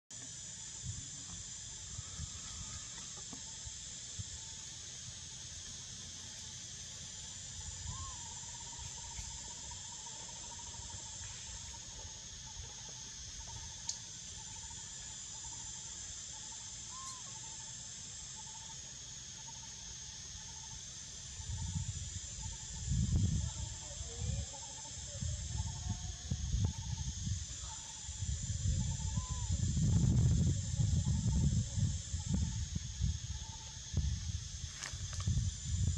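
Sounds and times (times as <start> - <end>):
faint thin continuous tone: 0.2 - 35.9
insects shrilling: 0.2 - 35.9.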